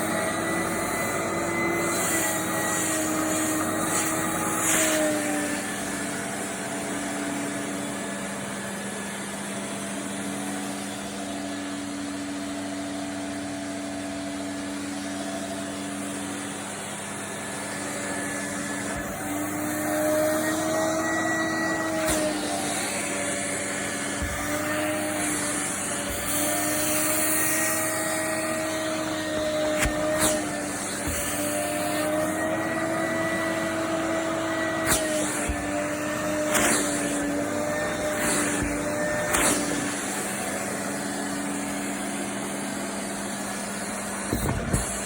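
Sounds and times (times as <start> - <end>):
vacuum cleaner motor running: 0.0 - 45.0.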